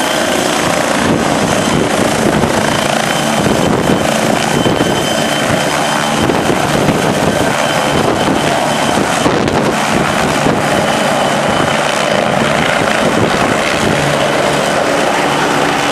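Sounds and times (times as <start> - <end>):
helicopter rotors and engine: 0.0 - 15.9
wind buffeting microphone: 0.2 - 15.9.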